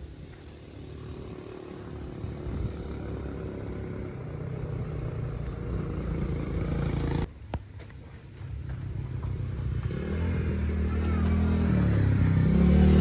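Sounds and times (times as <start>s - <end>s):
vehicle engine running: 0.0s - 7.3s, 8.4s - 13.0s.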